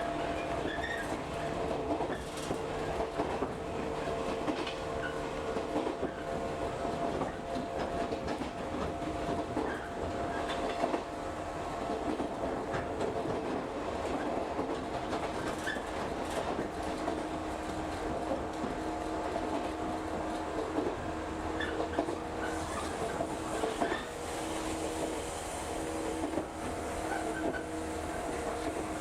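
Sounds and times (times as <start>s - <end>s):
train interior rumble: 0.0s - 29.0s.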